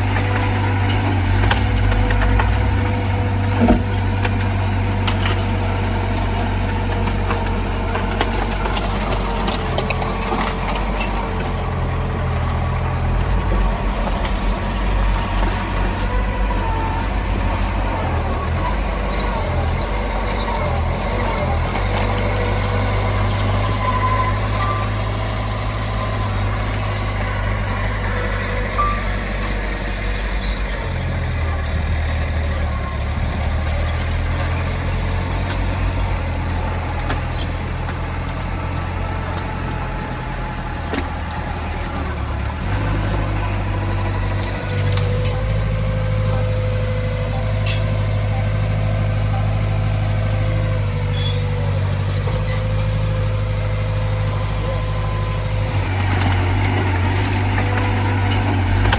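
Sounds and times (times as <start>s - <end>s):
diesel machinery engine running: 0.0s - 58.9s.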